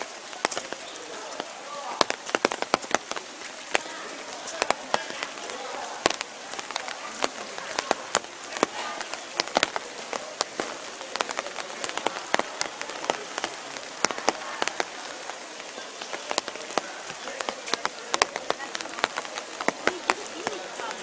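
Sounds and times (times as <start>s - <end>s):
rain hiss: 0.0s - 21.0s
rain taps: 0.0s - 21.0s.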